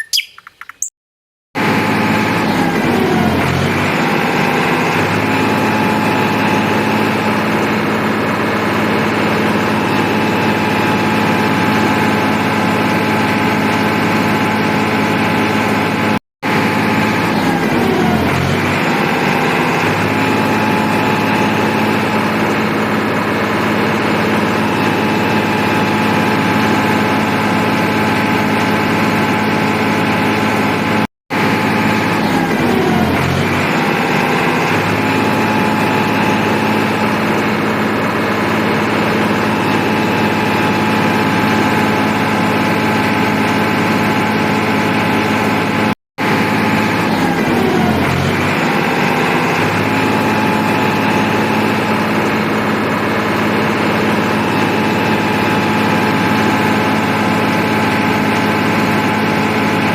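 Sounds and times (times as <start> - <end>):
tractor engine running: 1.6 - 59.9.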